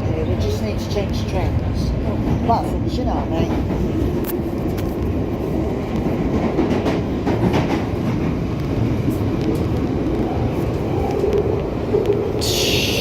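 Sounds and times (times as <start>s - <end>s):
train rumble in tunnel: 0.0s - 13.0s.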